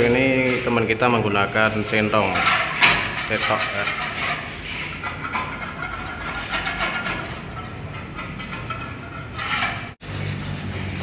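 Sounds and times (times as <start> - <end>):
trowel scraping wall paint: 0.0 - 11.0.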